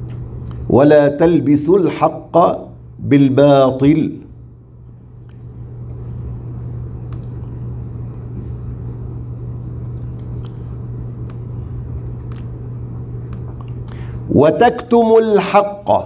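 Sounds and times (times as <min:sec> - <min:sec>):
low rumble with deep hum: 0:00.0 - 0:16.0.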